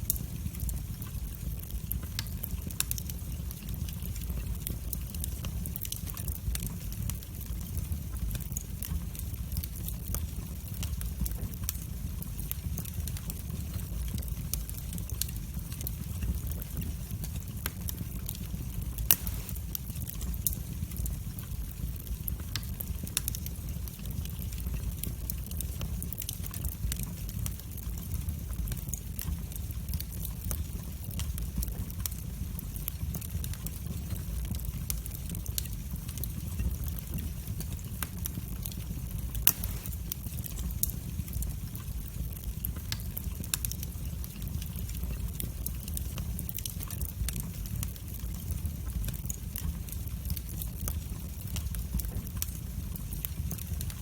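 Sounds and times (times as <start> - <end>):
fire flames rumbling: 0.0 - 54.0
fire popping: 0.0 - 54.0
wood fire crackling: 0.0 - 54.0.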